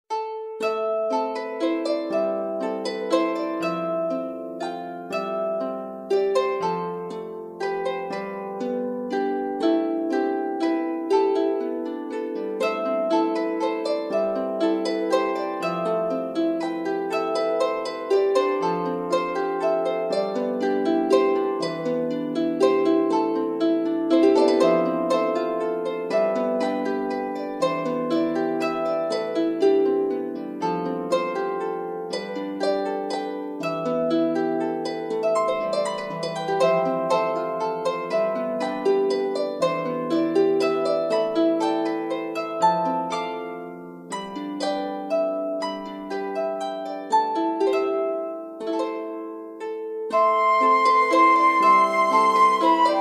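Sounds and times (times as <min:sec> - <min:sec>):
plucked harp-like melody: 0:00.1 - 0:53.0.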